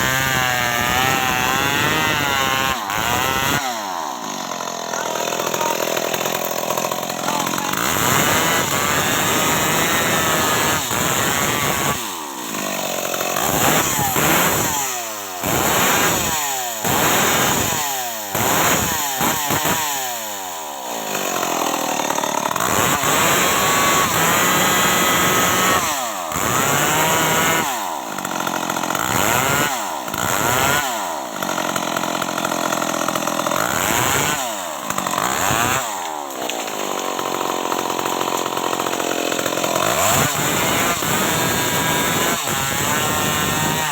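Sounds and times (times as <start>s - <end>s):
chainsaw cutting timber: 0.0s - 43.9s.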